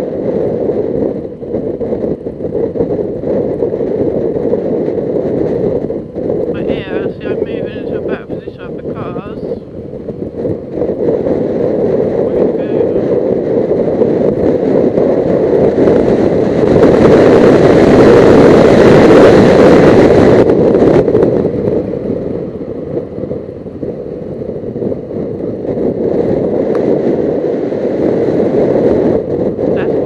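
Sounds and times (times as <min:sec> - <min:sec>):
motorcycle engine running: 0:00.0 - 0:30.0
wind rushing over helmet: 0:00.0 - 0:30.0.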